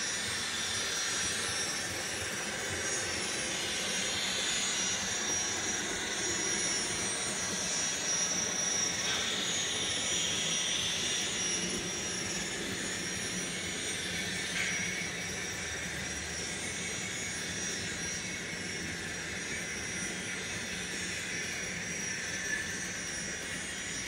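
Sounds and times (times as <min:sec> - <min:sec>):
model locomotive turbine whine: 0:00.0 - 0:24.0.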